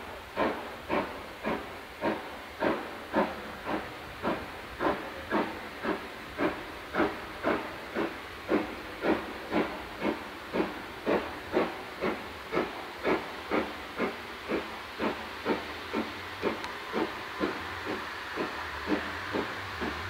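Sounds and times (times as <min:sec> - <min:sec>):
steam locomotive chuffing: 0:00.0 - 0:20.0.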